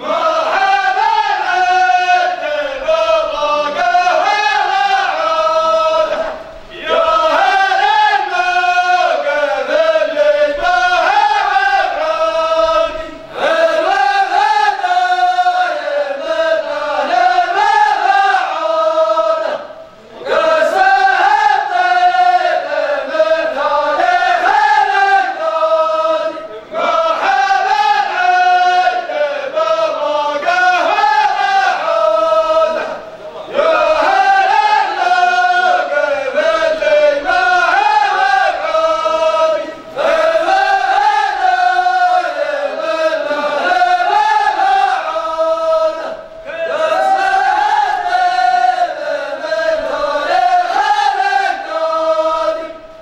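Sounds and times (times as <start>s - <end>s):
men chanting sung poem: 0.0s - 53.0s.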